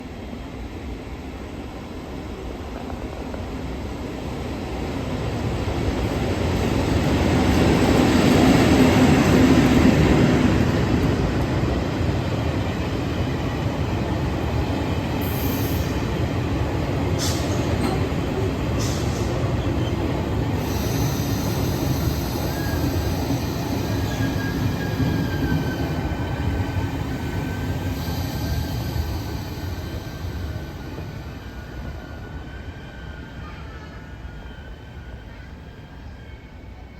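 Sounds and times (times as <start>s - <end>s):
train wheels rumbling on rail: 0.0s - 34.4s.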